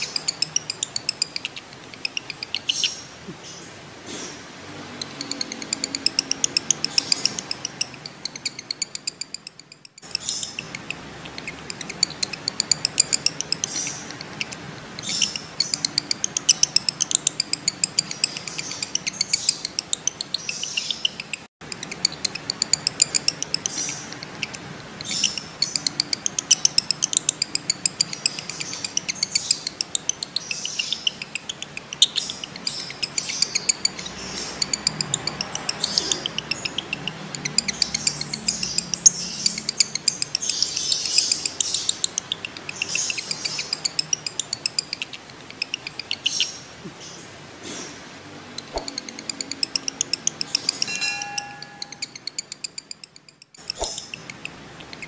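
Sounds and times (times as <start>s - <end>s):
lovebirds chattering: 0.0s - 55.0s.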